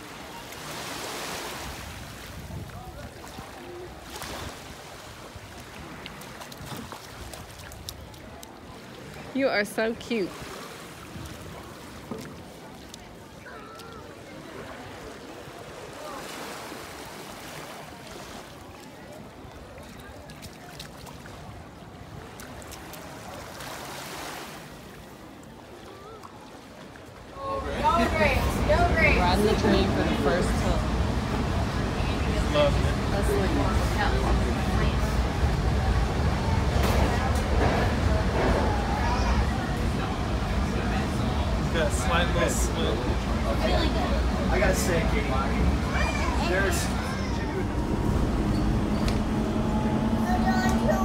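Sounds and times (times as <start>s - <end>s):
sea water rushing: 0.0s - 51.0s
seawater washing: 0.0s - 51.0s
wind: 0.0s - 51.0s.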